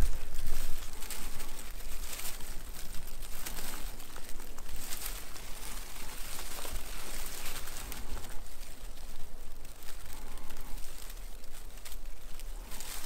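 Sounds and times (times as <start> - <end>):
shrub leaves and twigs rustling: 0.0 - 13.0.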